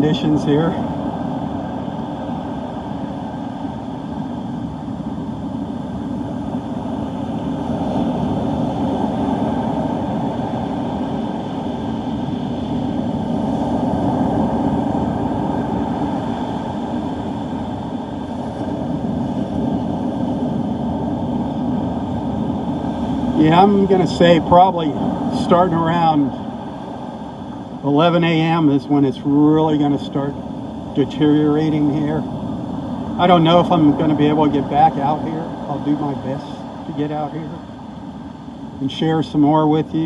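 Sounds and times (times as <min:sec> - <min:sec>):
heavy surf: 0:00.0 - 0:40.0
wind rumbling on microphone: 0:00.0 - 0:40.0.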